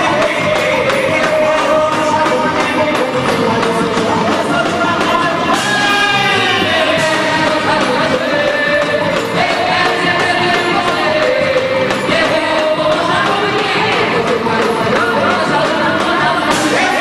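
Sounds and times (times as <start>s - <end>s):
band music with singing: 0.0s - 17.0s.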